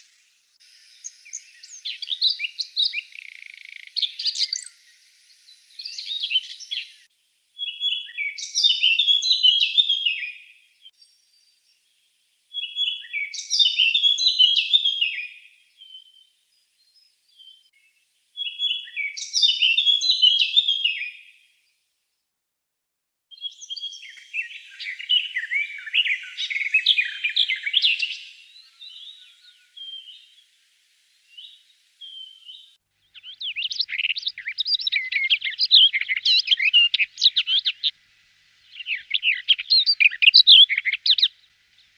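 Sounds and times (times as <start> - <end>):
second bird singing: 0.0 - 11.0, 12.5 - 16.3, 18.4 - 21.3, 23.3 - 30.5, 31.2 - 38.0, 38.6 - 41.9
bird warbling song: 0.0 - 11.9, 12.5 - 16.3, 16.9 - 21.3, 23.3 - 38.0, 38.6 - 41.9.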